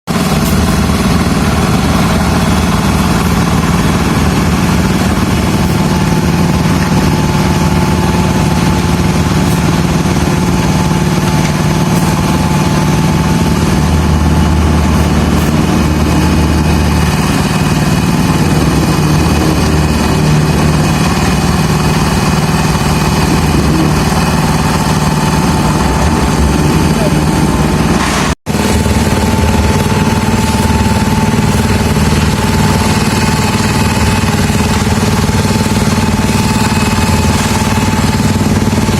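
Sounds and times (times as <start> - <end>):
small machinery engine running: 0.1 - 38.9.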